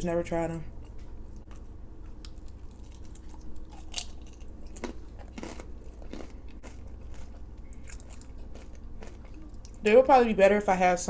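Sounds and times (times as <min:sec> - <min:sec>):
chewing crispy fried food: 0:00.8 - 0:09.9.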